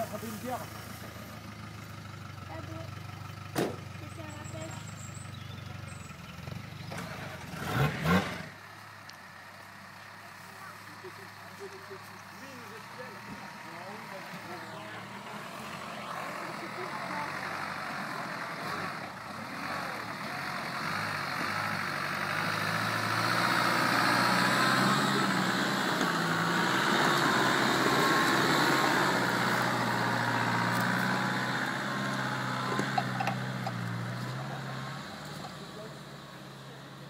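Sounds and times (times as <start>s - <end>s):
off-road vehicle engine under load: 0.0s - 37.0s.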